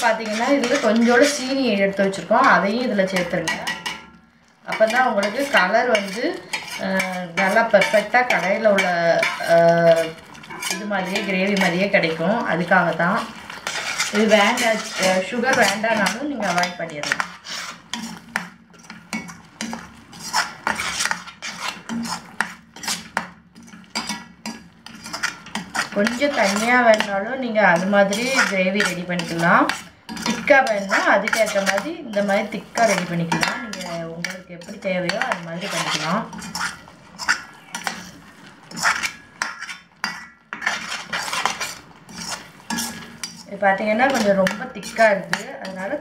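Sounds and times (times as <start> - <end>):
utensil scraping cooking pan: 0.0 - 46.0.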